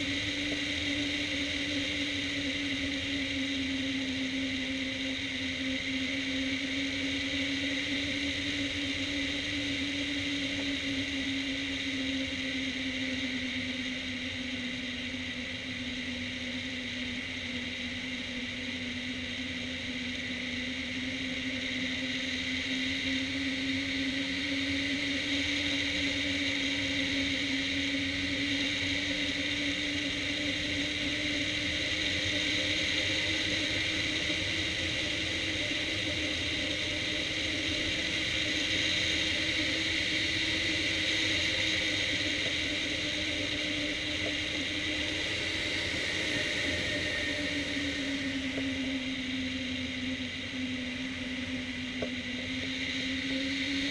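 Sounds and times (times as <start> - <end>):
airflow roaring past glider: 0.0 - 53.9
steady humming tone: 0.0 - 53.9.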